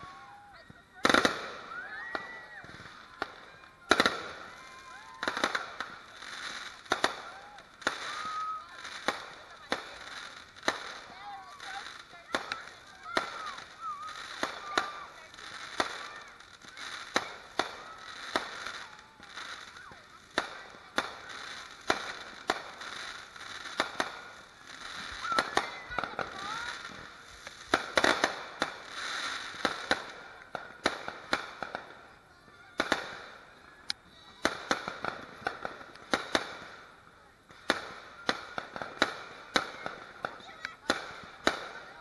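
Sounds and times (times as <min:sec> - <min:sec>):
fireworks bangs and pops: 0:00.0 - 0:42.0
fireworks crackling hiss: 0:00.0 - 0:42.0.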